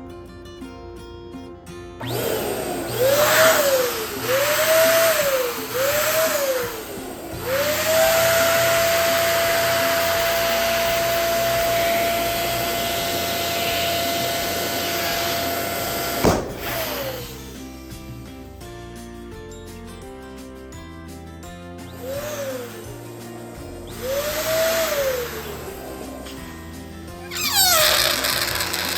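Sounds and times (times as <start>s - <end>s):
electric balloon pump whining: 2.0s - 18.3s, 21.8s - 28.9s.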